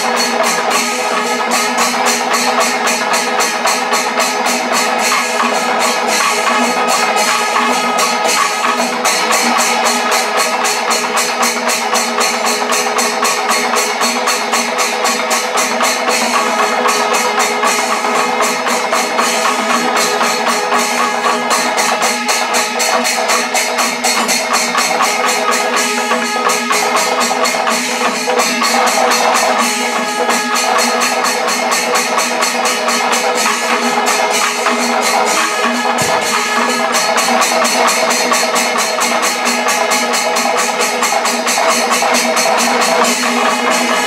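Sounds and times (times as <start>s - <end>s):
clashing cymbals: 0.0s - 44.0s
drums struck in fast rhythm: 0.0s - 44.0s.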